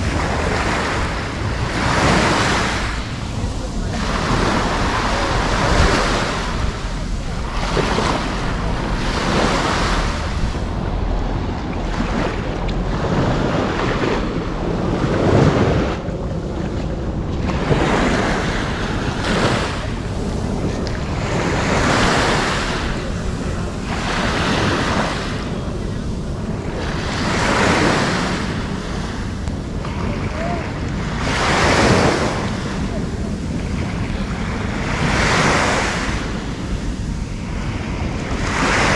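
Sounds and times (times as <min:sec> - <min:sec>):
waves breaking on shore: 0:00.0 - 0:38.9
wind buffeting microphone: 0:00.0 - 0:38.9.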